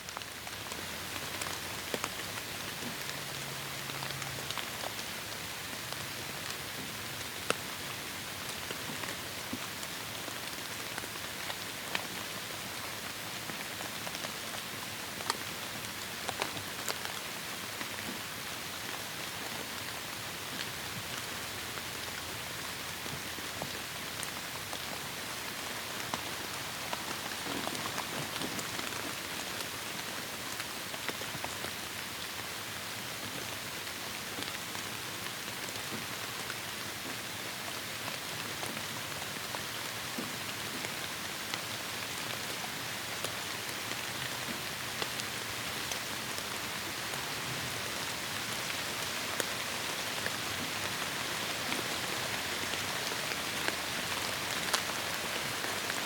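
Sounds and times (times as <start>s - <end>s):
heavy rain in a forest: 0.0s - 56.0s.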